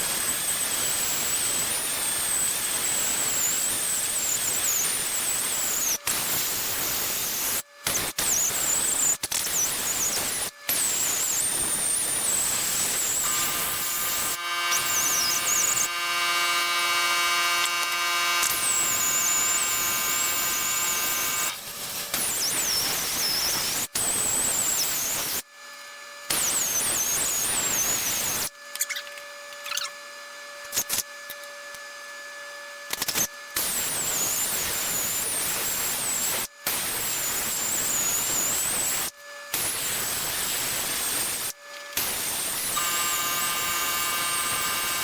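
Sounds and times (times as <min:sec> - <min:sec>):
welding arc hissing: 0:00.0 - 0:15.9, 0:18.5 - 0:25.4, 0:26.3 - 0:28.5, 0:33.0 - 0:45.0
power grinder whining on metal: 0:00.0 - 0:45.0.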